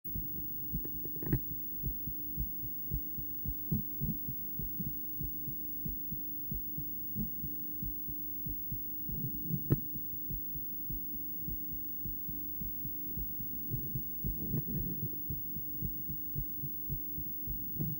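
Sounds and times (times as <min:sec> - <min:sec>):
heartbeat thumps on ultrasound: 0:00.1 - 0:17.9
steady low hum: 0:00.1 - 0:17.9.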